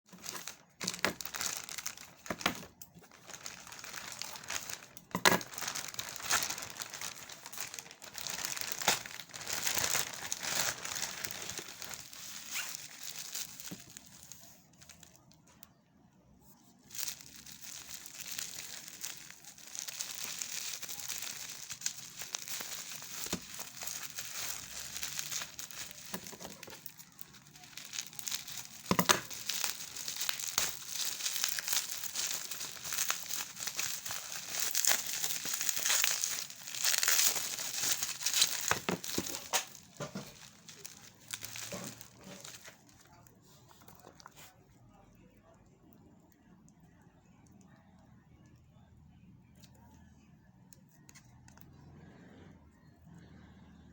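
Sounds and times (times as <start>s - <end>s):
plastic wrap crinkling: 0.0s - 15.8s, 16.5s - 44.6s.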